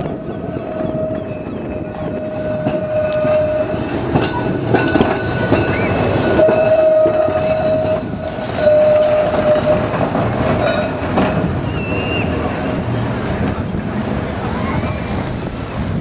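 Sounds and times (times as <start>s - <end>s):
sharp clicks from rails: 0.0s - 16.0s
tram running on track: 0.0s - 16.0s
wheels rumbling: 0.0s - 16.0s.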